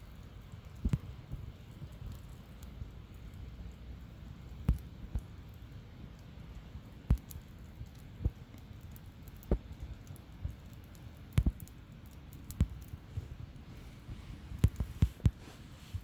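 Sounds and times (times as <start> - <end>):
campfire crackling and popping: 0.0 - 15.4.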